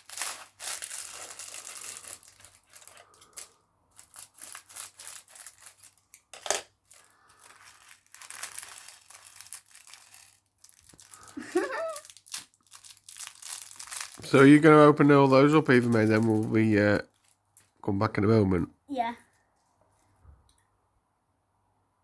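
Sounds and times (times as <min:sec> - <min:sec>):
plastic bags tearing and crinkling: 0:00.0 - 0:17.7.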